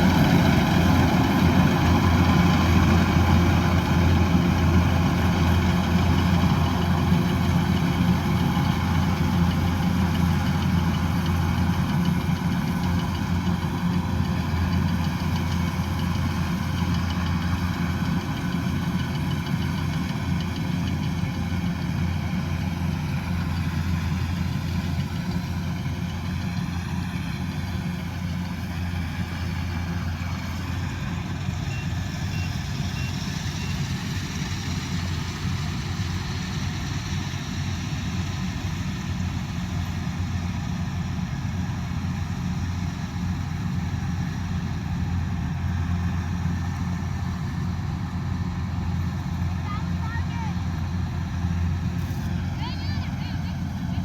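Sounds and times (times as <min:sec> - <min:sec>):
harvester engine running: 0:00.0 - 0:54.0.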